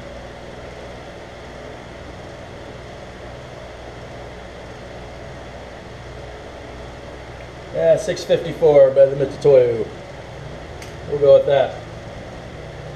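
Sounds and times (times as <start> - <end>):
low motor hum: 0.0 - 12.9.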